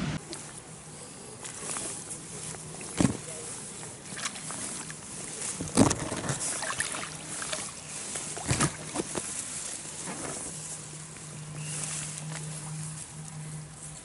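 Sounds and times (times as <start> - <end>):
water splashing and sloshing: 1.4 - 12.8.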